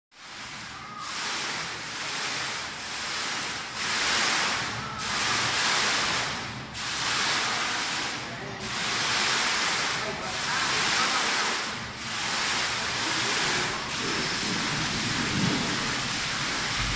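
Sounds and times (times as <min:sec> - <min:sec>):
falling water splashing: 0:00.2 - 0:16.9.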